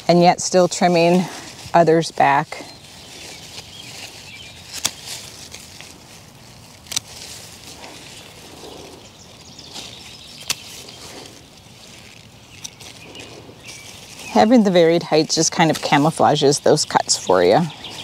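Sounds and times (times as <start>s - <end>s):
leaves rustling: 0.0s - 18.0s
pruners snipping stems: 0.0s - 18.0s.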